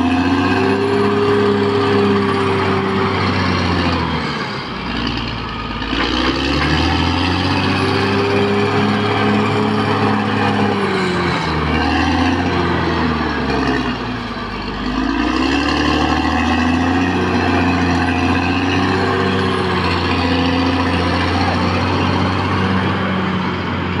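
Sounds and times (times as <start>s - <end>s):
bulldozer diesel engine under load: 0.0s - 24.0s.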